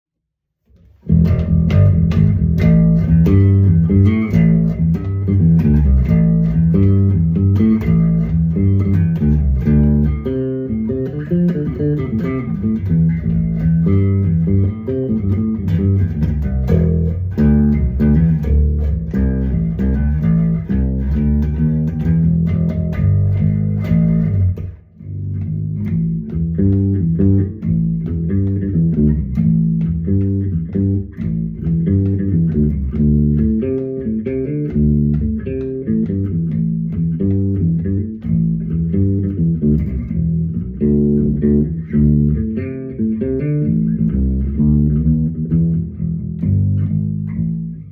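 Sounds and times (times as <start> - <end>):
electric bass riff: 0.7 - 47.9.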